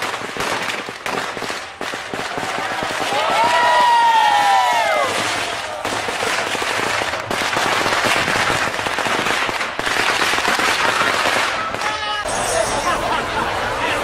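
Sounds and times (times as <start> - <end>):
firecrackers crackling rapidly: 0.0 - 12.8.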